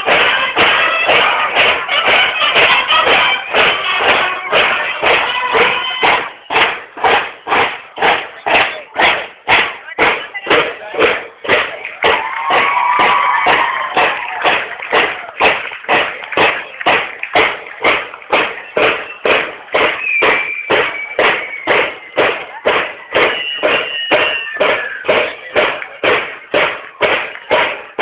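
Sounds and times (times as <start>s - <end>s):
marching drums beating: 0.0s - 28.0s.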